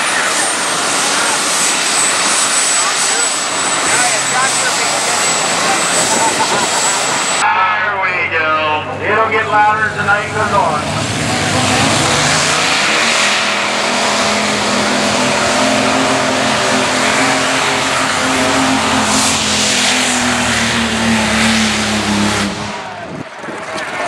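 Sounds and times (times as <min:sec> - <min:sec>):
pulling tractor engines at full throttle: 0:00.0 - 0:24.0.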